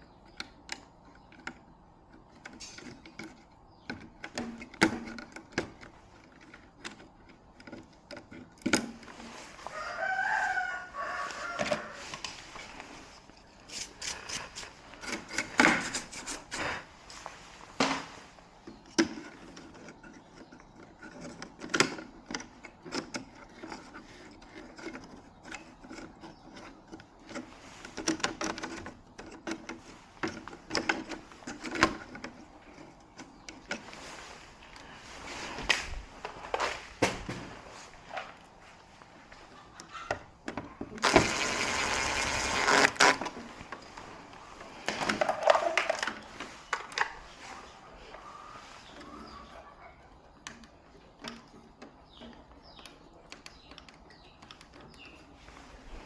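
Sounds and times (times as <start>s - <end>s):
handling noise clicks and knocks: 0.0s - 9.8s, 11.4s - 34.9s, 35.5s - 47.5s, 48.9s - 55.7s.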